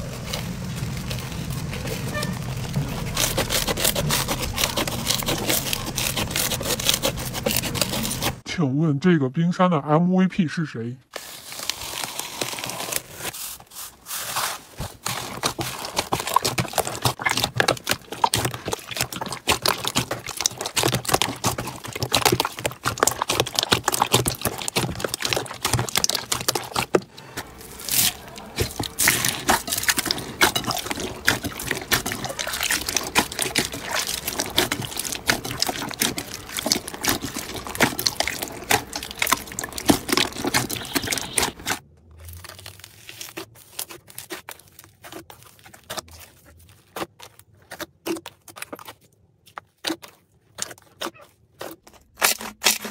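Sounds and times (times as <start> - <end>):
hands squeezing slime: 0.0 - 8.4, 14.1 - 52.9.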